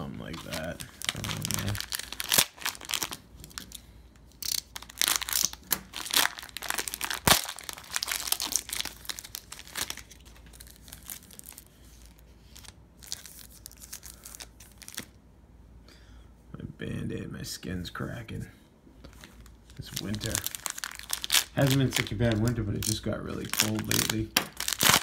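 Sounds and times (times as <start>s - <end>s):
cellophane crinkling and tearing: 0.0s - 15.2s, 19.1s - 25.0s.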